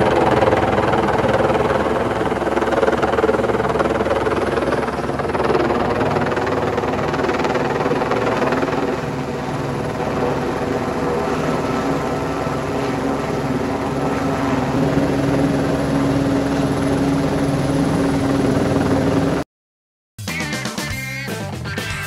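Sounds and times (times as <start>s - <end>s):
helicopter rotor and engine: 0.0s - 19.4s.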